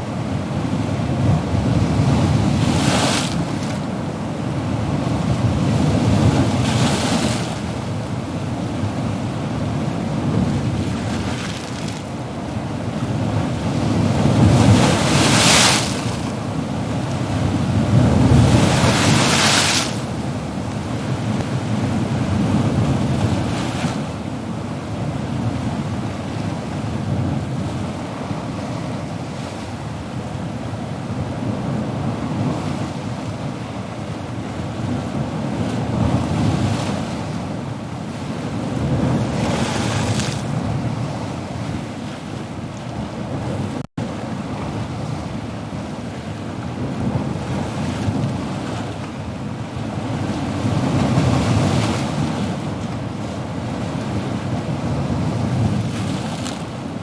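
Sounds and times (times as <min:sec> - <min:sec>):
ocean waves breaking: 0:00.0 - 0:24.4, 0:34.5 - 0:57.0.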